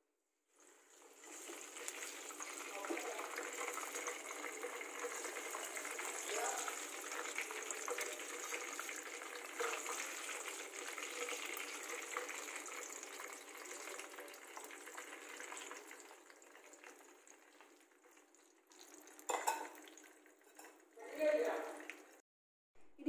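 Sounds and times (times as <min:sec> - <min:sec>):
hot oil sizzling and crackling: 0:00.5 - 0:22.2.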